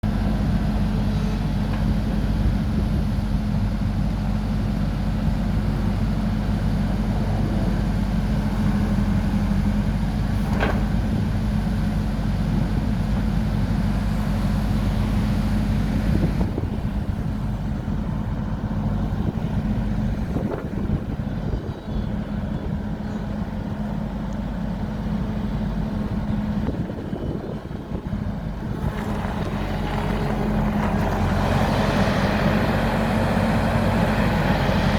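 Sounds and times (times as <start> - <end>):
loader engine running: 0.0 - 34.9.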